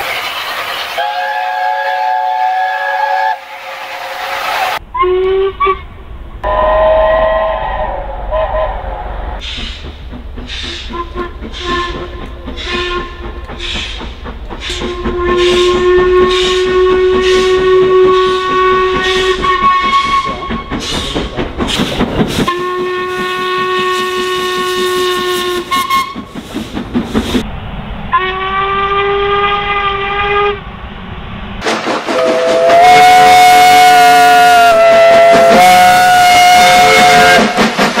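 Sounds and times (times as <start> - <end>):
steam locomotive whistles: 0.0 - 27.4, 28.1 - 30.6, 31.6 - 38.0
steam exhaust beats: 0.0 - 30.6, 31.6 - 38.0.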